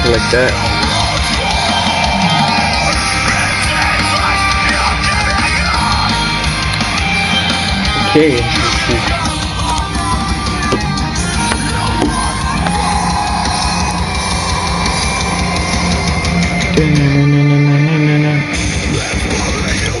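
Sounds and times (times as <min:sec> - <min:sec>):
distorted electric guitar: 0:00.0 - 0:20.0
drum kit: 0:00.0 - 0:20.0.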